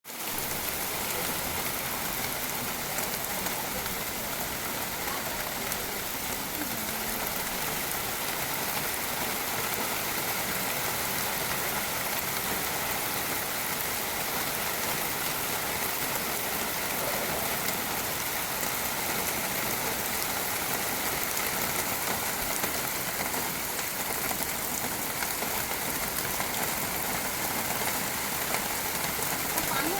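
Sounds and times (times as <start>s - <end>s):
steady rain falling: 0.1s - 29.9s.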